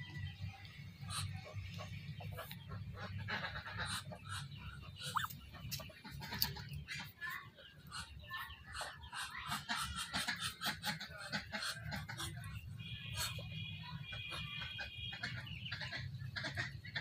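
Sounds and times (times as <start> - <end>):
duck chirps and clicks: 0.3 - 17.0.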